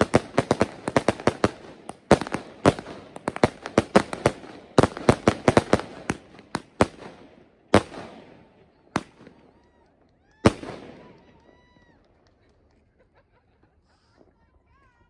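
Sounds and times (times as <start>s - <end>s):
fireworks bursting: 0.0s - 9.8s, 10.4s - 12.7s.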